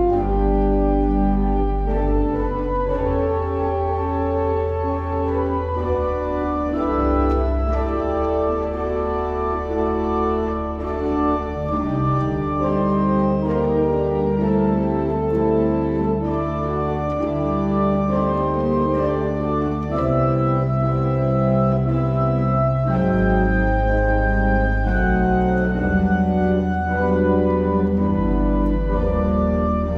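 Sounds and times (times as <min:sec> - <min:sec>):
organ chords: 0:00.0 - 0:29.9.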